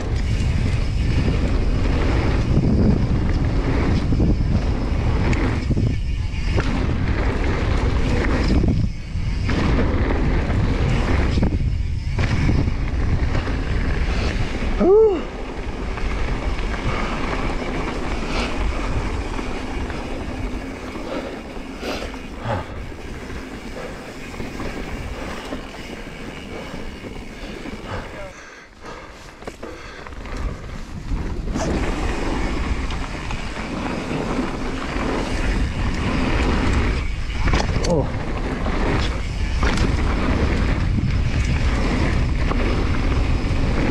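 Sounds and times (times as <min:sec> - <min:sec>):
bike rattling: 0:00.0 - 0:43.9
tyres rumbling on gravel: 0:00.0 - 0:43.9
wind buffeting microphone: 0:00.0 - 0:43.9.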